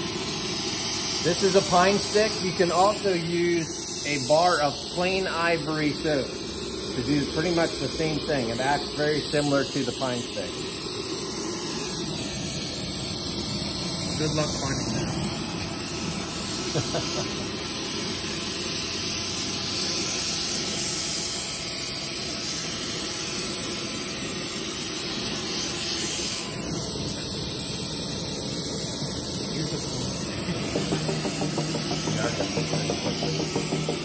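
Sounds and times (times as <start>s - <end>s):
gas torch flame hissing: 0.0s - 34.0s.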